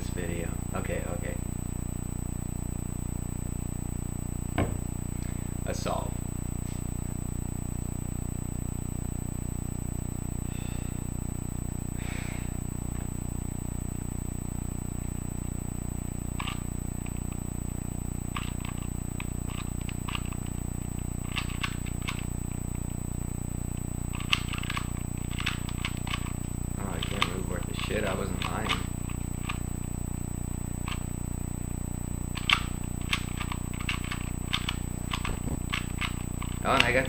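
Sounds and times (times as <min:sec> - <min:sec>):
low electrical hum: 0:00.0 - 0:37.0.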